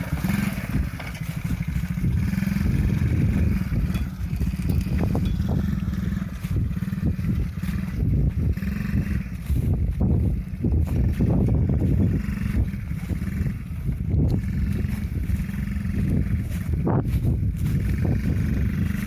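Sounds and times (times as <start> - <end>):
small quad bike engine: 0.0 - 19.0.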